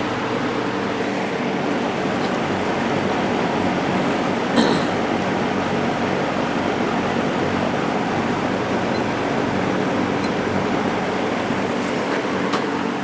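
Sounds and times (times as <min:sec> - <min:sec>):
box fan air rush: 0:00.0 - 0:13.0
low motor hum: 0:00.0 - 0:13.0.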